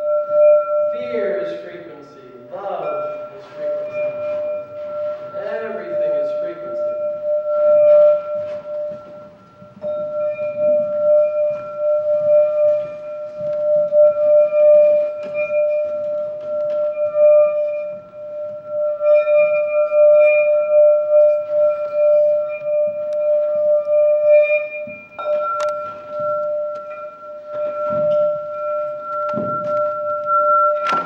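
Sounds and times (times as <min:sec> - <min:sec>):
singing bowl ringing: 0:00.0 - 0:31.0.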